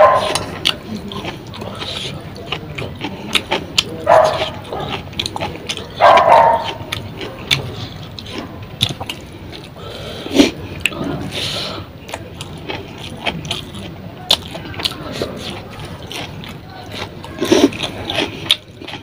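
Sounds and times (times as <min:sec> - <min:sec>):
wet smacking and chewing: 0:00.0 - 0:11.0, 0:12.0 - 0:19.0.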